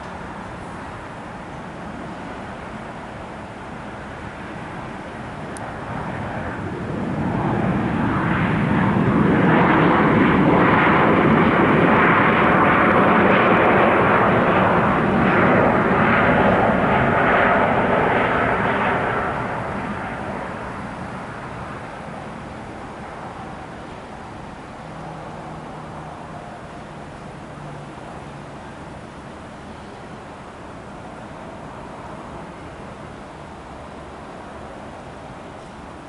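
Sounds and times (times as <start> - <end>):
airliner engines roaring: 0.0 - 36.0.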